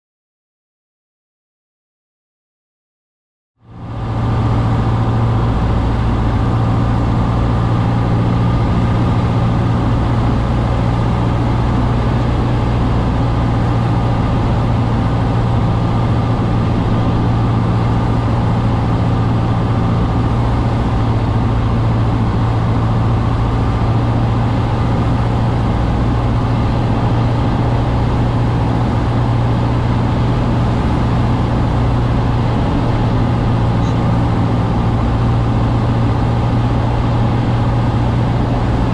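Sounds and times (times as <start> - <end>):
airplane engine drone: 3.6 - 38.9.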